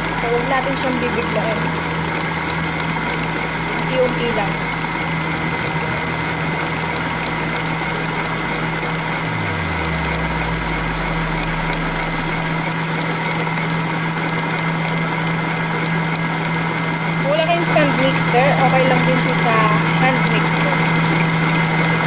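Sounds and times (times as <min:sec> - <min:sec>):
stand mixer motor running: 0:00.0 - 0:22.0.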